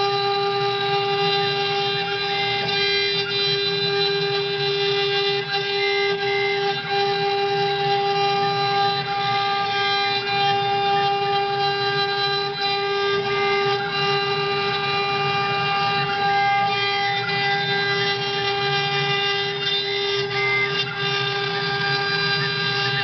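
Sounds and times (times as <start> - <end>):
bit cutting wood: 0.0 - 23.0
router spindle whine: 0.0 - 23.0.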